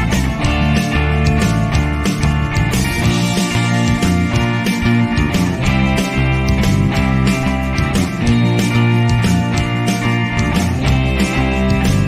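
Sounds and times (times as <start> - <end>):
guitar: 0.0 - 12.0
steady bass line: 0.0 - 12.0.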